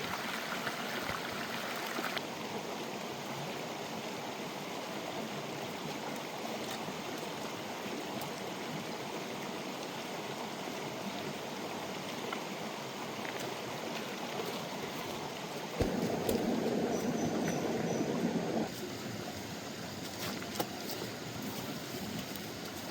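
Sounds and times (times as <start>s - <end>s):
forest stream flowing: 0.0s - 22.9s.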